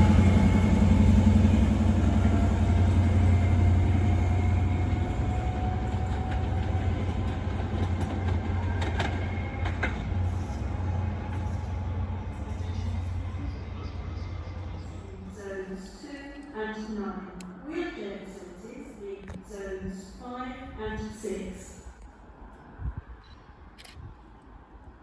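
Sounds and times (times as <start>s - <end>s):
train rumble: 0.0s - 23.1s.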